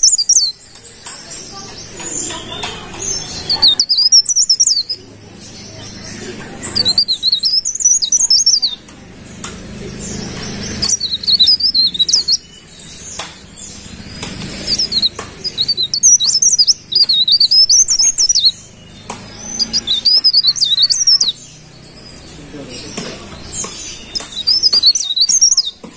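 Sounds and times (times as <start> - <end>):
leaf warbler twittering song: 0.0 - 25.9.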